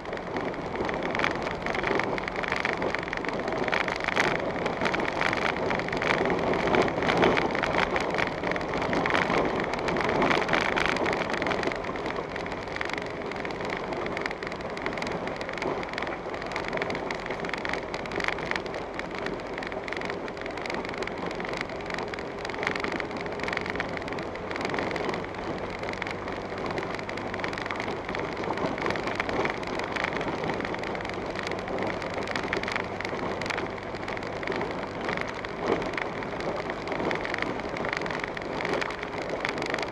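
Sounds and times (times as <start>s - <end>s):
tyres crackling on loose stones: 0.0s - 39.9s
vehicle engine running low: 0.0s - 39.9s.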